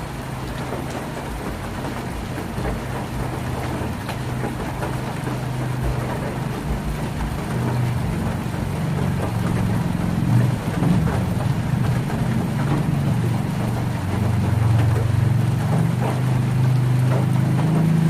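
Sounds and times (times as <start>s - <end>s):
heavy rain on a tin roof: 0.0s - 18.0s.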